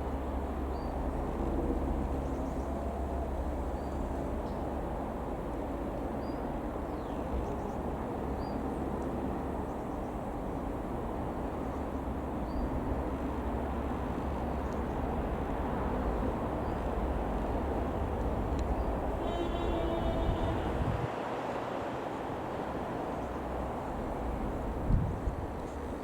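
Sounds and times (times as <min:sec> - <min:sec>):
wind rumbling on microphone: 0:00.0 - 0:21.2, 0:21.9 - 0:26.0
distant aircraft engine drone: 0:00.0 - 0:26.0.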